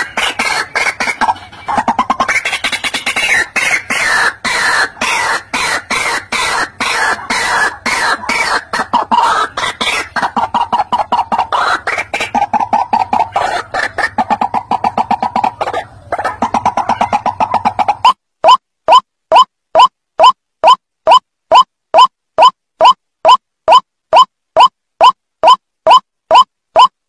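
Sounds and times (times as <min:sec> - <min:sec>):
waterhen calling: 0:00.0 - 0:26.9.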